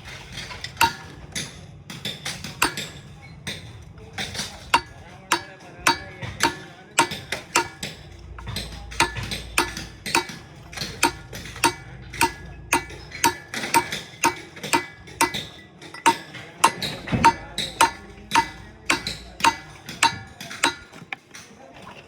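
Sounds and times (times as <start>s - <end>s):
hammer striking metal: 0.4s - 1.6s, 2.2s - 3.6s, 4.2s - 21.2s.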